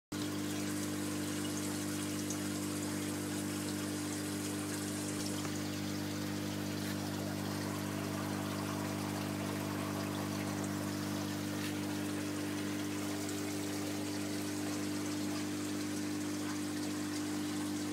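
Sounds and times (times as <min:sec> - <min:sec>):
water trickling and splashing: 0:00.1 - 0:17.9
low motor hum: 0:00.2 - 0:17.9.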